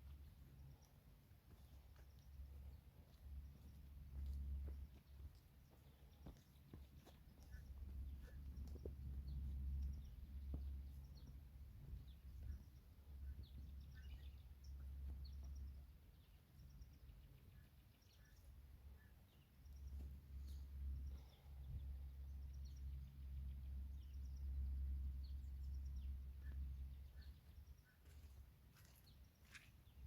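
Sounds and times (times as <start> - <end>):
steady low rumble: 0.0 - 28.7
songbirds chirping: 0.0 - 30.0.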